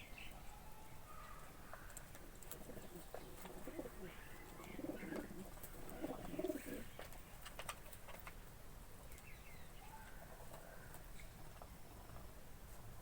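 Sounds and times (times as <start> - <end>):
soft pigeon calls: 0.0 - 13.0.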